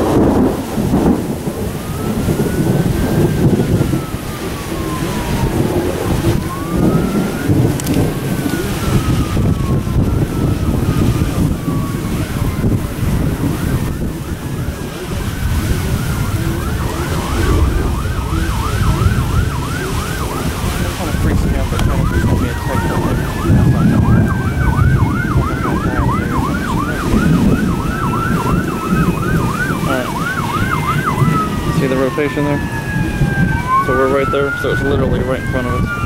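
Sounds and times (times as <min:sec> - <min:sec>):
gusty low rumble: 0:00.0 - 0:36.0
rapid yelp siren: 0:00.0 - 0:36.0
wailing sirens: 0:00.0 - 0:36.0.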